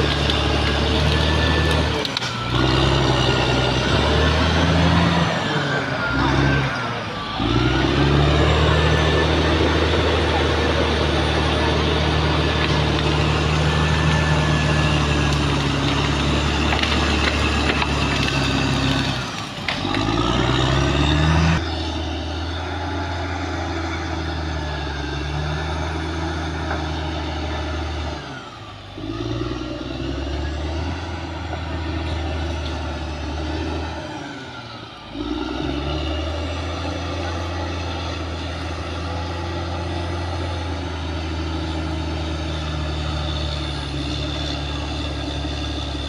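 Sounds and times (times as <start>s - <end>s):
bulldozer diesel engine under load: 0.0s - 46.0s.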